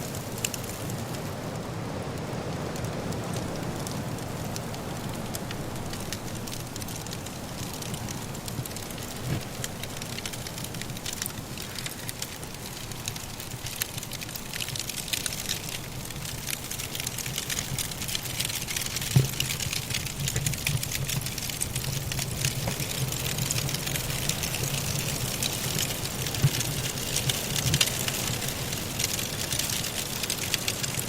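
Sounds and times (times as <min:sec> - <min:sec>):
blizzard wind rumble: 0:00.0 - 0:31.0
wood fire crackling: 0:00.0 - 0:31.0.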